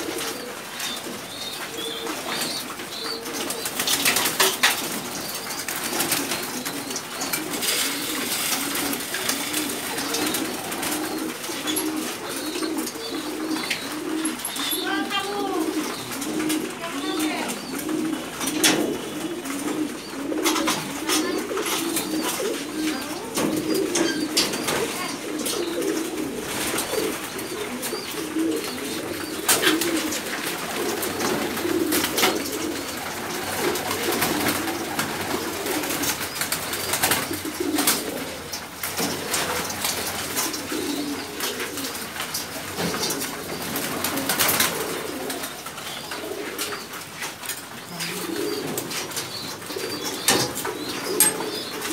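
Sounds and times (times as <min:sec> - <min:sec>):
pigeons cooing: 0:00.0 - 0:51.9.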